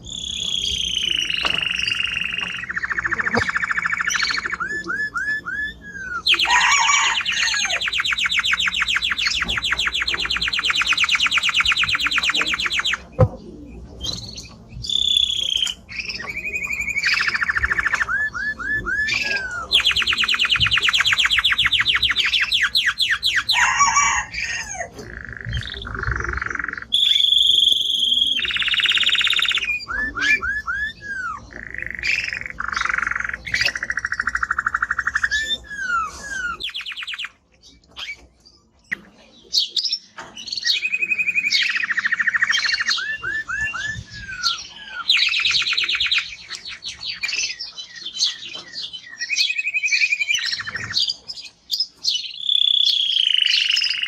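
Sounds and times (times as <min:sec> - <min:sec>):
canary singing fast trills: 0:00.0 - 0:54.0.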